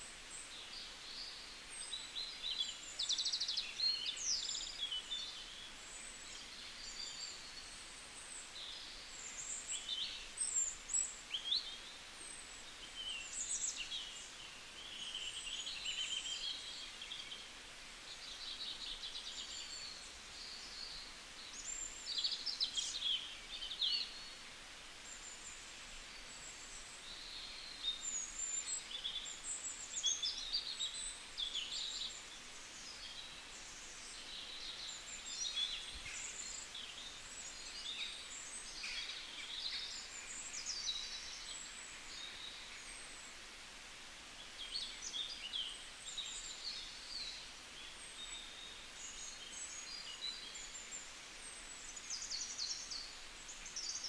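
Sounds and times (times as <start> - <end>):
faint background hiss: 0.0 - 54.0
small birds chirping: 0.0 - 54.0.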